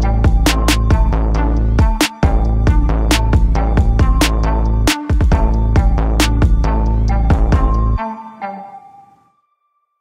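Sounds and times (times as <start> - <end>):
electronic music with drum-machine beat: 0.0 - 9.2.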